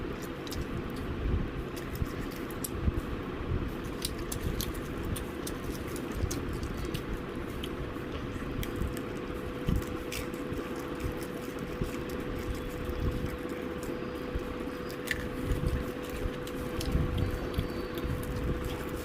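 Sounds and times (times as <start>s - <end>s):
faint steady hum: 0.0s - 19.0s
person chewing fried chicken: 0.0s - 19.0s.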